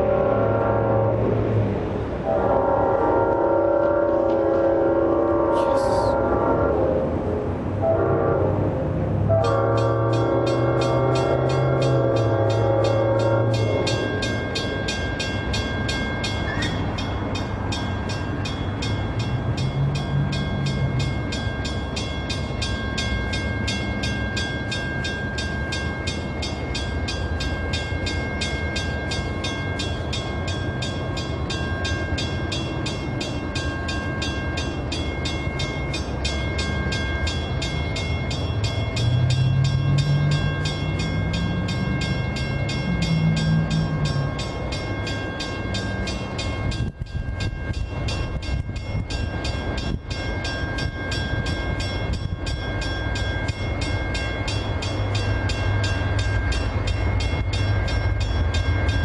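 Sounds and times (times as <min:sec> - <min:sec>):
low train engine note: 0:00.0 - 0:59.0
train rumbling by: 0:00.0 - 0:59.0.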